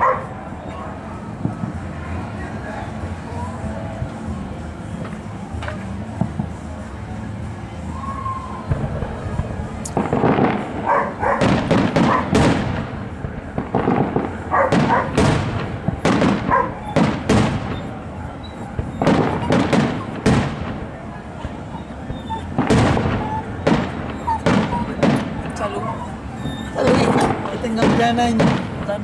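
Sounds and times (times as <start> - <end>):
fireworks bursting with echo: 0.0 - 29.0.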